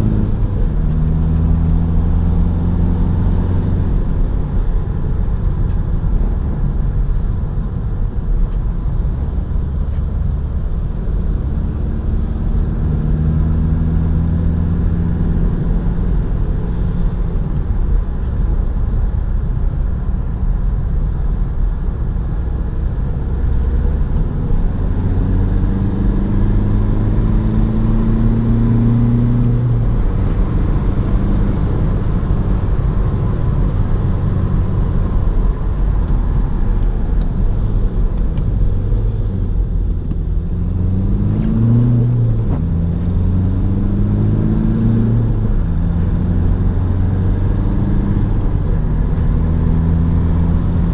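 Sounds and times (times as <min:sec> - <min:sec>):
road rumble: 0:00.0 - 0:50.9.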